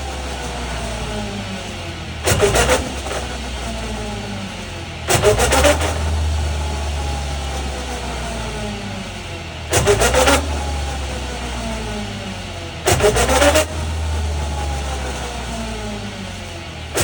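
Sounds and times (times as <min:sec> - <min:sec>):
car differential gear drone and whine: 0:00.0 - 0:17.0.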